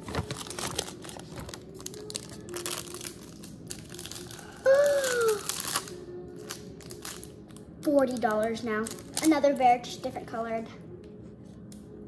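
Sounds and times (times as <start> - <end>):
plastic packaging crinkling and tearing: 0.0 - 9.9.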